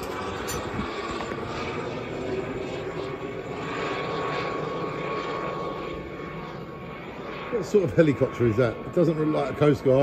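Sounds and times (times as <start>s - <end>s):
helicopter rotor and engine drone: 0.0s - 10.0s
thin steady whine: 0.0s - 10.0s.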